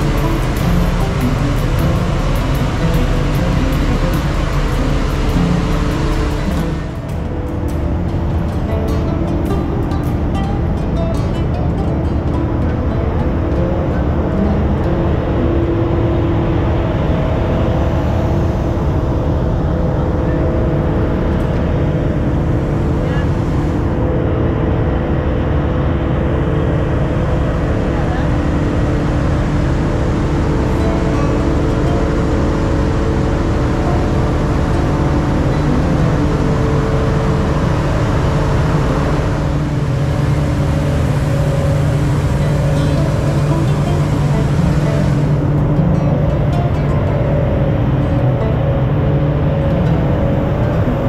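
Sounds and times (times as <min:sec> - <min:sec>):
machine drone with low hum: 0:00.0 - 0:51.0.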